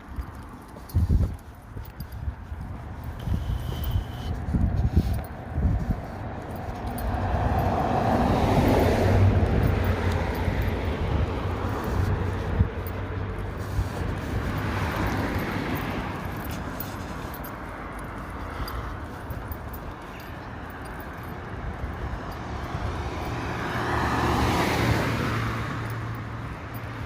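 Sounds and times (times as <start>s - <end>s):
car passing: 0.0s - 27.0s
wind rumbling on microphone: 0.0s - 27.0s.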